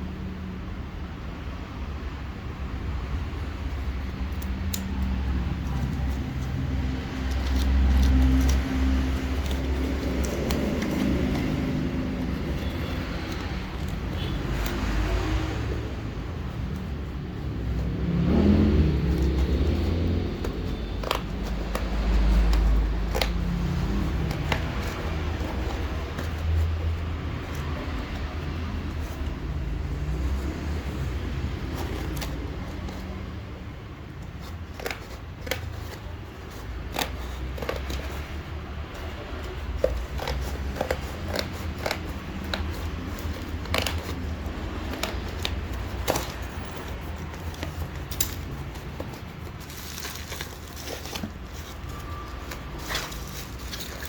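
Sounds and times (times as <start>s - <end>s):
cardboard and plastic packaging handled: 3.0s - 54.0s.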